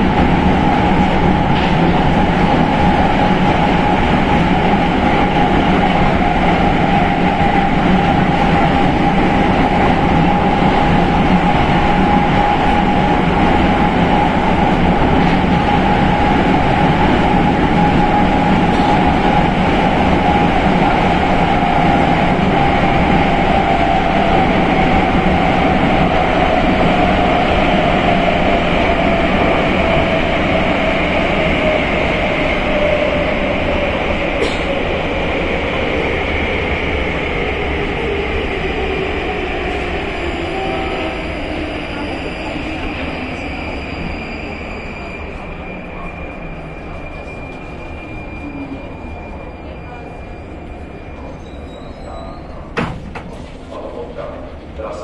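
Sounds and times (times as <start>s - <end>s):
train wheels rumbling on rail: 0.0s - 55.0s
train whine: 0.0s - 55.0s.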